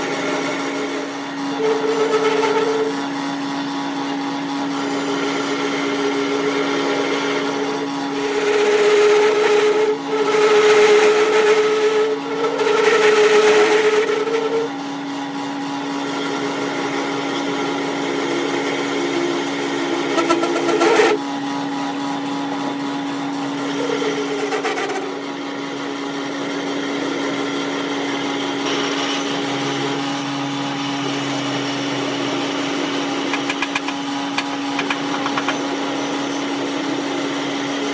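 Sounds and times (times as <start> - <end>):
workshop machinery humming: 0.0 - 37.9.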